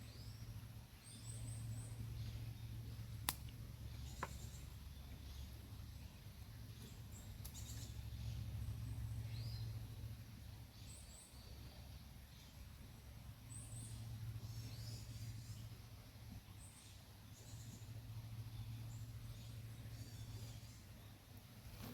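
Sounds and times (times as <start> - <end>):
low outdoor rumble: 0.0 - 21.9.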